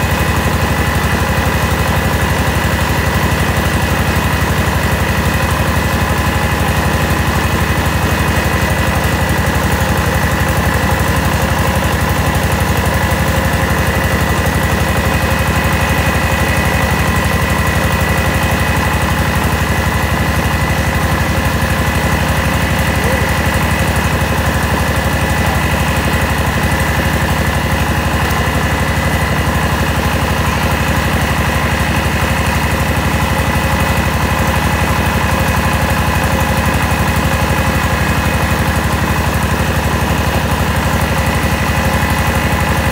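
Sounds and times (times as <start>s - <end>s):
rice huller engine humming: 0.0s - 42.9s.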